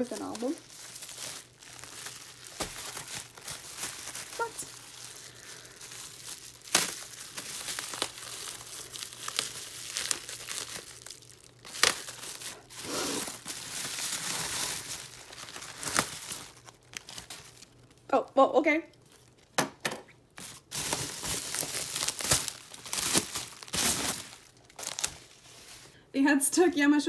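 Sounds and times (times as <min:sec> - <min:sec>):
bubble wrap crinkling: 0:00.0 - 0:18.1, 0:18.8 - 0:26.0.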